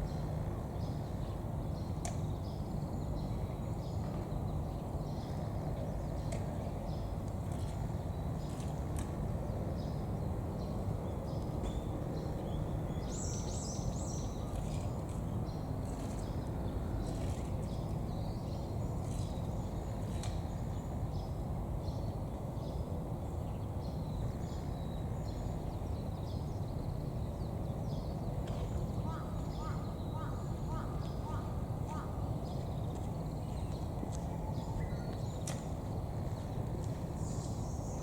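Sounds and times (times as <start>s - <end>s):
steady low background noise: 0.0s - 38.0s.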